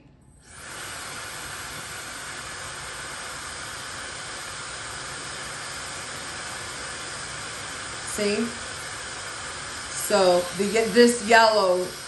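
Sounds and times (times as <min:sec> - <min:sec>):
hair dryer blowing air: 0:00.4 - 0:12.0.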